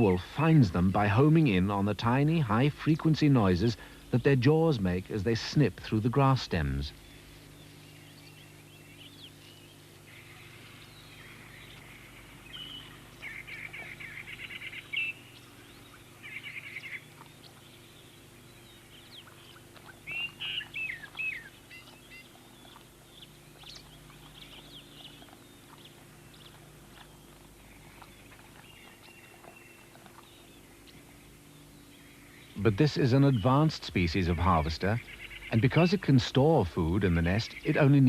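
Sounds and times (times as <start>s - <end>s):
chirping trills: 0.0s - 38.0s
faint steady hum: 0.0s - 38.0s.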